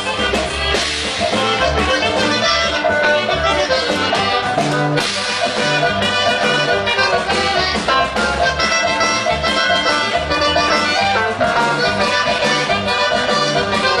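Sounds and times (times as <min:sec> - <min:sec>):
bass: 0:00.0 - 0:14.0
button accordion melody: 0:00.0 - 0:14.0
strummed bajo sexto: 0:00.0 - 0:14.0.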